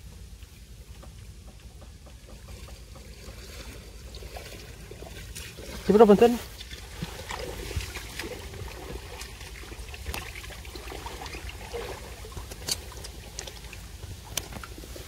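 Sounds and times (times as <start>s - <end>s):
shallow water splashing: 2.0s - 15.0s.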